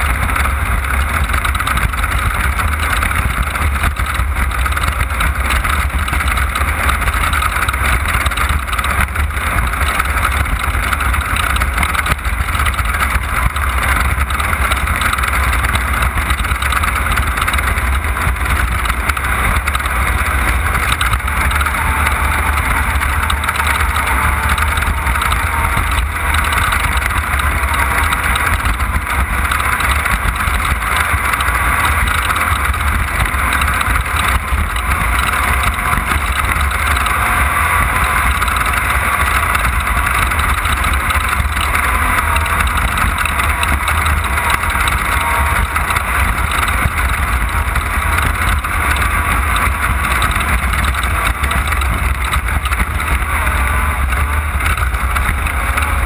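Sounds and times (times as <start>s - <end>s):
race vehicle engine running: 0.0s - 56.0s.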